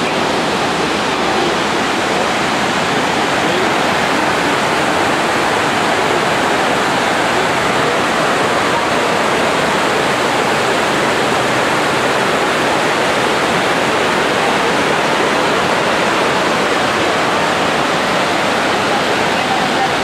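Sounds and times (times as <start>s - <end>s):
rush of falling water: 0.0s - 20.0s.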